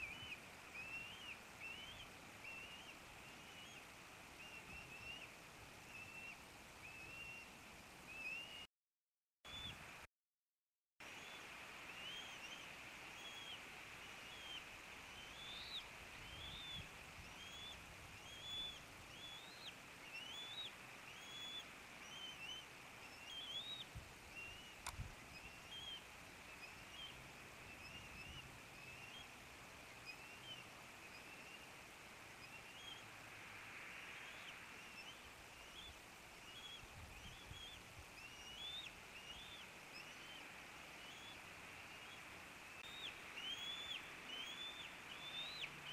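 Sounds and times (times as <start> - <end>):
eaglet cheeping calls: 0.0 - 7.5, 8.1 - 8.7, 11.1 - 31.7, 32.3 - 33.1, 34.1 - 45.9
steady hiss: 0.0 - 8.4, 11.0 - 45.9.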